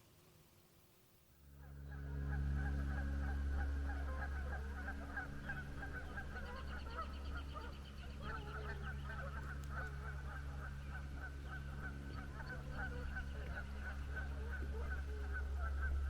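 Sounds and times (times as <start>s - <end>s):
geese honking: 1.6s - 16.0s.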